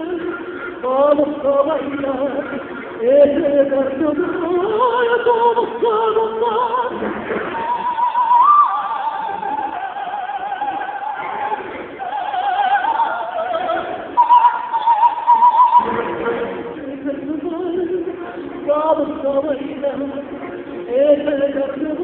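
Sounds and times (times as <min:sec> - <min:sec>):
woman singing operatically: 0:00.0 - 0:20.3, 0:20.9 - 0:22.0.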